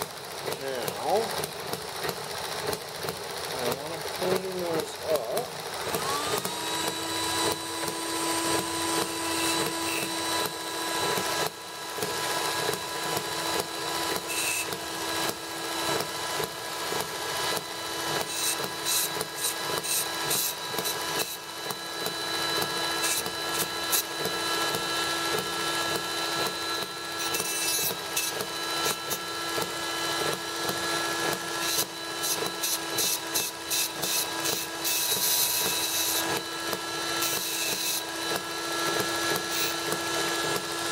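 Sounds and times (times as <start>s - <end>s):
cut-off wheel grinding brass pipe: 0.0s - 40.9s
rotary tool whining: 0.0s - 40.9s.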